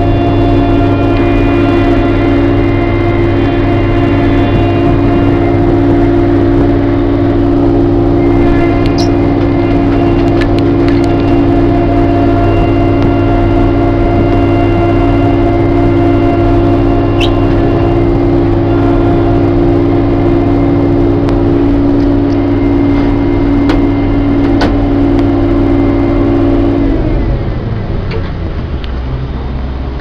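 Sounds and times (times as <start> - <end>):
combine harvester engine drone: 0.0 - 30.0.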